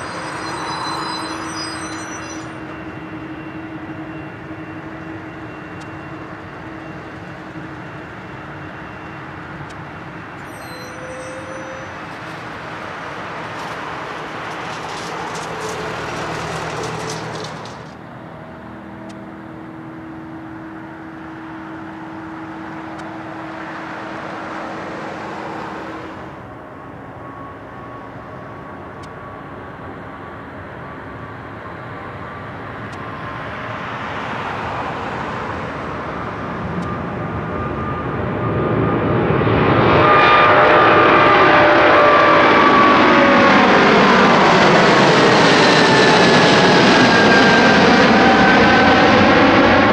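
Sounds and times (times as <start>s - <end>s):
jet engines idling: 0.0s - 40.2s, 41.1s - 49.9s.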